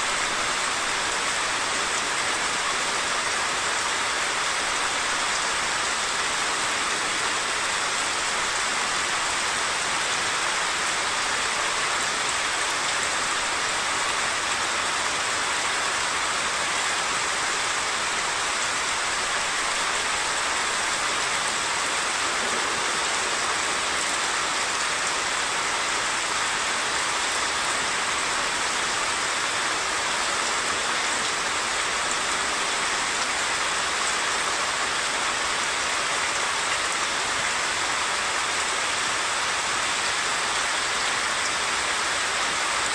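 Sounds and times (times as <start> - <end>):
heavy rain falling: 0.0 - 42.9
rushing stream: 0.0 - 42.9.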